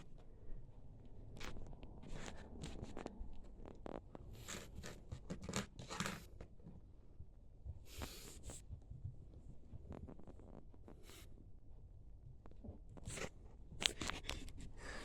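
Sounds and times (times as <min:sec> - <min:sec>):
kitten scratching and rustling: 0:01.0 - 0:06.8, 0:07.7 - 0:11.5, 0:12.4 - 0:15.0.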